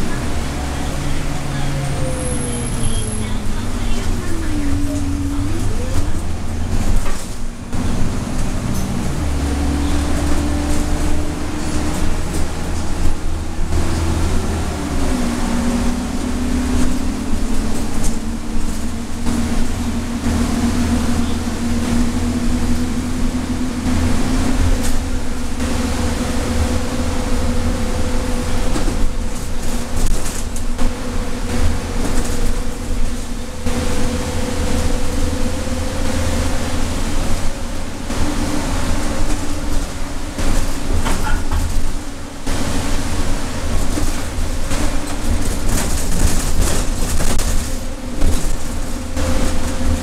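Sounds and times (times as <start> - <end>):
bus engine rumble and whine: 0.0 - 50.0.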